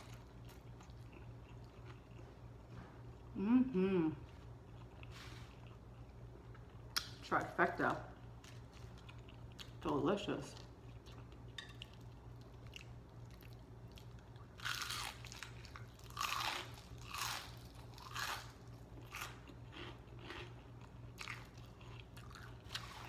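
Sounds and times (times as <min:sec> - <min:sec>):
crunching and chewing crispy food: 0:00.0 - 0:03.4, 0:04.2 - 0:23.0.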